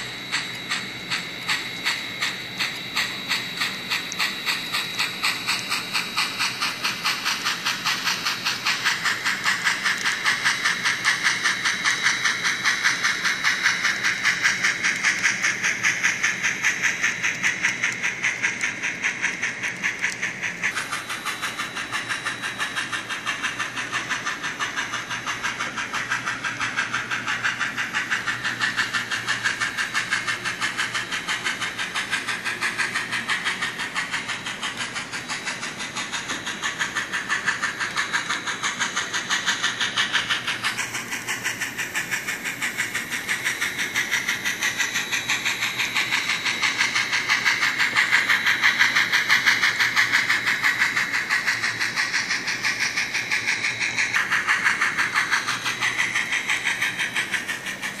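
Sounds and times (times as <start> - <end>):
model steam locomotive chuffing: 0.0 - 58.0.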